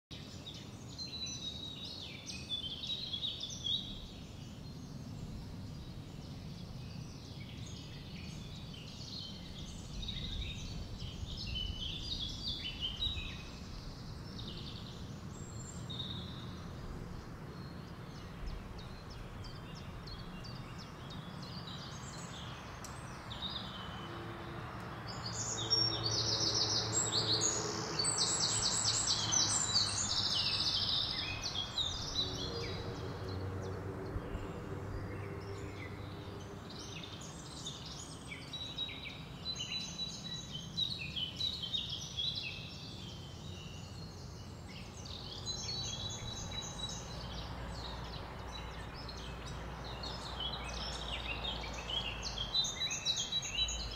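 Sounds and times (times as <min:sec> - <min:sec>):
small birds chirping: 0:00.1 - 0:53.9.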